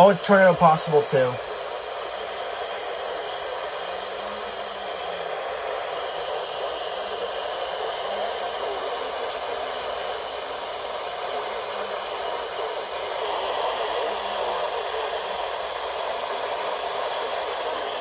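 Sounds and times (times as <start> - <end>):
faint broadcast voice: 0.0 - 1.8, 2.6 - 18.0
radio static hiss: 0.0 - 18.0.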